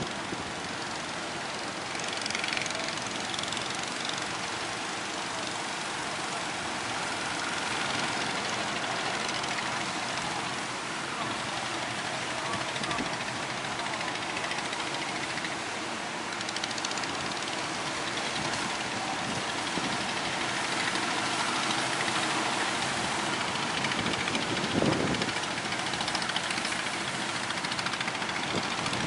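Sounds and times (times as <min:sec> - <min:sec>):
boat engines running: 0:00.0 - 0:29.0
waves breaking: 0:00.0 - 0:29.0.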